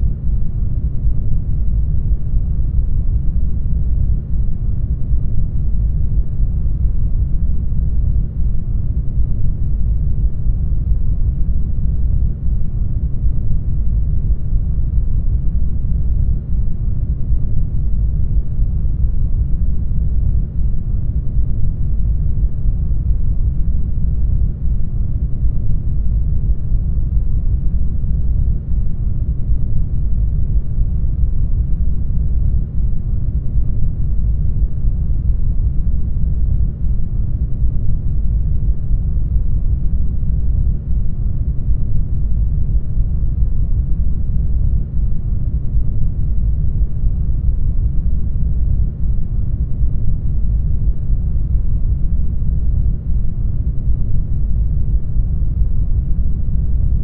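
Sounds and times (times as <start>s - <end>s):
deep muffled rumble: 0.0s - 57.0s.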